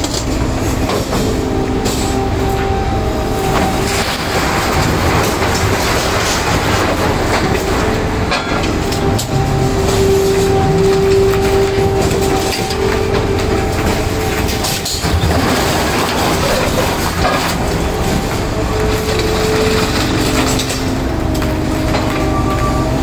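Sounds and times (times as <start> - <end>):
machine running: 0.0 - 23.0
scrap metal crunching and clattering: 0.0 - 23.0
long squealing tones: 1.0 - 23.0.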